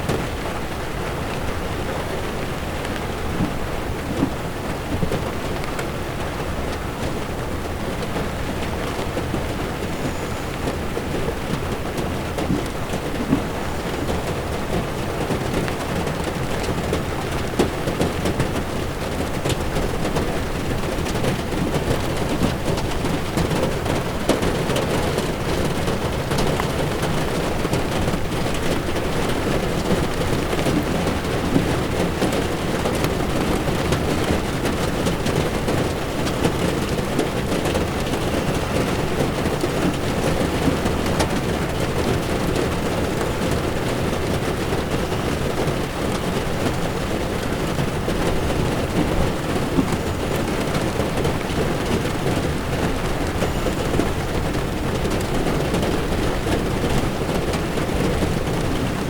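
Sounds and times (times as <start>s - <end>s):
heavy rain on car windshield: 0.0s - 59.0s
tyres on wet road: 0.0s - 59.0s.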